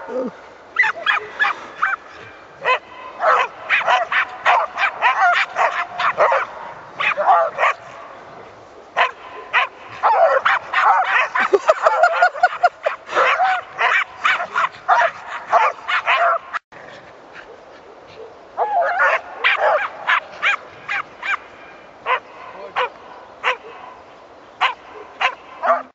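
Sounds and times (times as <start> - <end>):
dogs barking and yipping: 0.0 - 16.6, 17.3 - 25.9.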